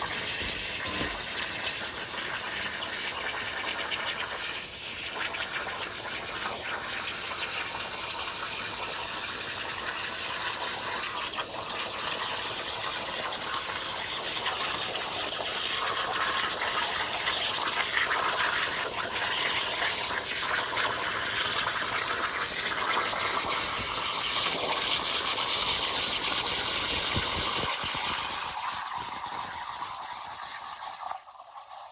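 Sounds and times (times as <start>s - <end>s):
plasma torch cutting hiss: 0.0s - 31.9s.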